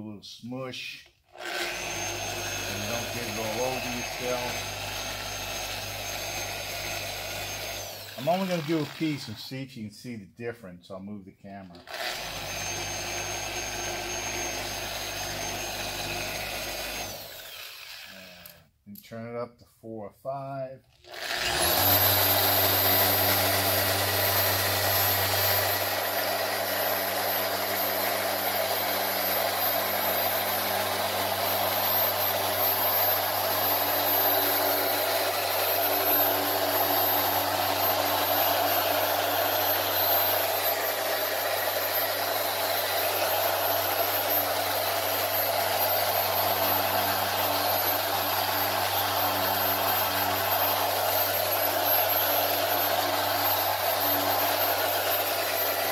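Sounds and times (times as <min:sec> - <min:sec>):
polisher motor hum and whine: 0:01.4 - 0:09.0, 0:11.9 - 0:18.6, 0:21.1 - 0:55.9.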